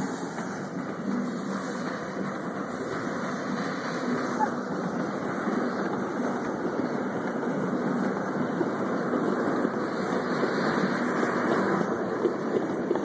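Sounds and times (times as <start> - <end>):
miniature steam locomotive running: 0.0 - 13.0.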